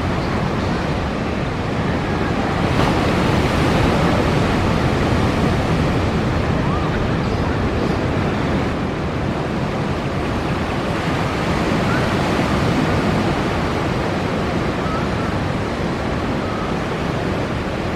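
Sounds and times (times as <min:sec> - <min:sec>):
ocean surf breaking: 0:00.0 - 0:17.9.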